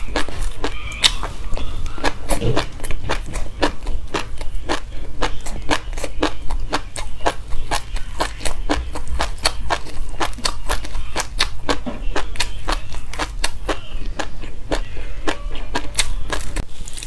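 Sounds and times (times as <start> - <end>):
chewing crunchy seeds: 0.0 - 17.0.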